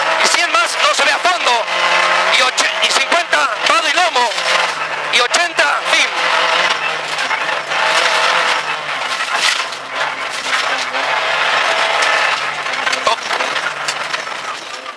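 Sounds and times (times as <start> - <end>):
car engine under load: 0.0 - 14.9.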